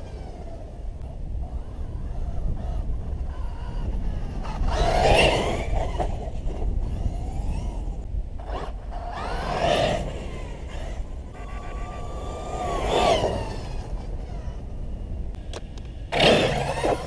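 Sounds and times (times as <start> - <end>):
electric motor whining: 0.0 - 17.0
wind rumbling on microphone: 0.0 - 17.0.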